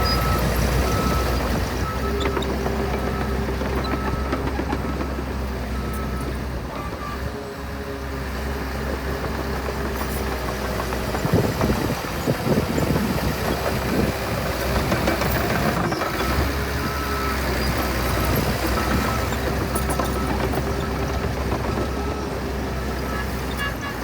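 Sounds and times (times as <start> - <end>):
diesel machinery engine hum: 0.0 - 24.0.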